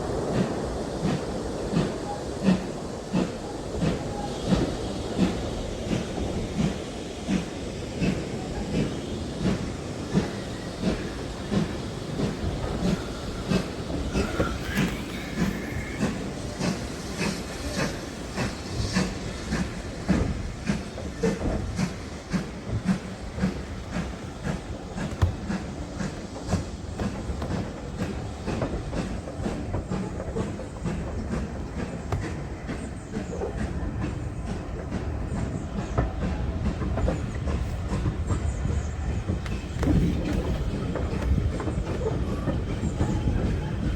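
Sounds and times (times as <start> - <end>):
steam hissing: 0.0 - 43.9
train wheels clattering over rails: 0.0 - 43.9.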